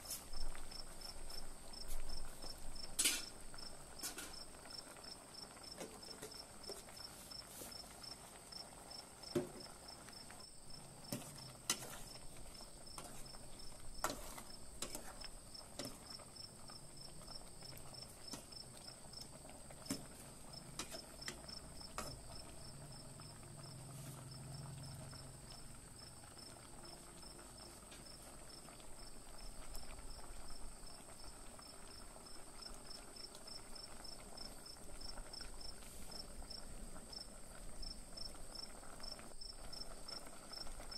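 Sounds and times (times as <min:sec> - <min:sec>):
curry bubbling in a pot: 0:00.0 - 0:40.9.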